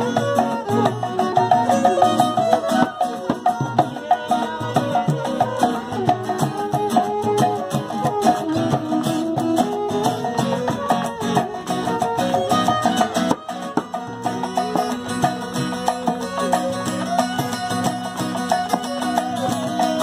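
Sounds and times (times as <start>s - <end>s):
bamboo flute: 0.0s - 20.0s
barrel drum: 0.0s - 20.0s
strummed acoustic guitar: 0.0s - 20.0s
violin: 0.0s - 20.0s.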